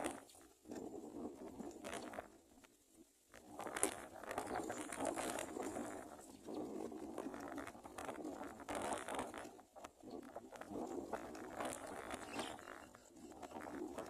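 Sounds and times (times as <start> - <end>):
rustling and scraping in a nest: 0.0 - 2.8, 3.4 - 14.0.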